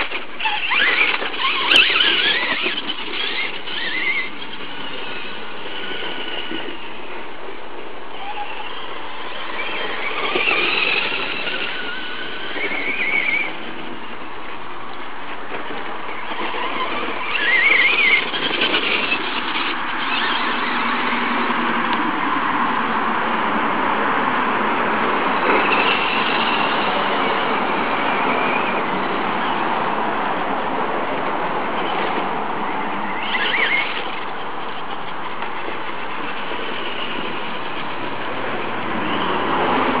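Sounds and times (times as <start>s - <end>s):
rc truck motors whining: 0.0s - 22.1s, 25.1s - 30.0s, 31.2s - 40.0s
steady rushing noise: 0.0s - 40.0s.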